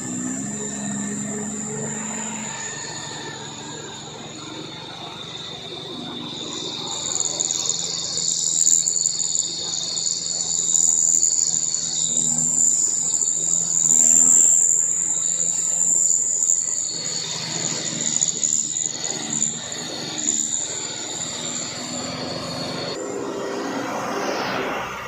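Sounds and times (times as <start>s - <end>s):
insects shrilling: 0.0s - 23.4s
vehicle engine running: 0.0s - 25.0s.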